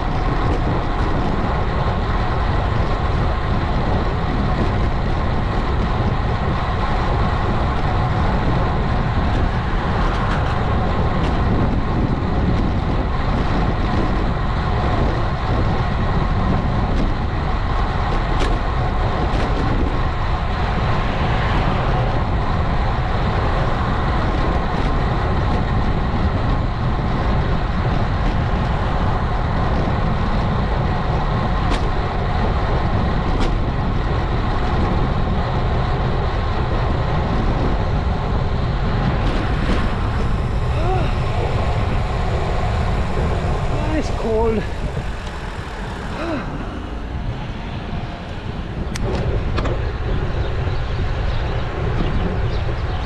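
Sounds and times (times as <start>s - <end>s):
bicycle tyre road noise: 0.0s - 53.0s
wind rumble on microphone: 0.0s - 53.0s.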